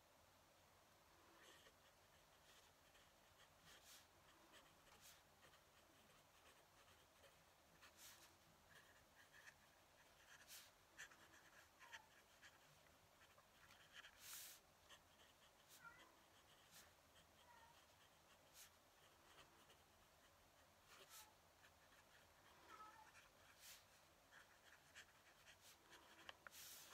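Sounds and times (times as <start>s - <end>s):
pen nib scratching on paper: 1.4s - 26.9s.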